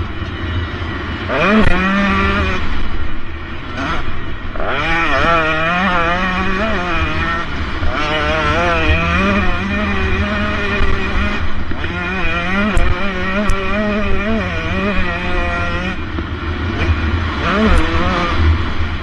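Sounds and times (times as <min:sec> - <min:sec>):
two-stroke motorbike engine revving: 0:01.2 - 0:19.0.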